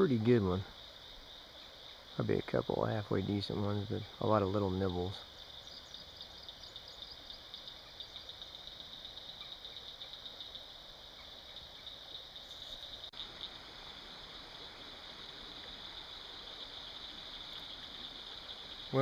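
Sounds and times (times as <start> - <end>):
high-pitched pulsing wildlife calls: 0.0 - 19.0.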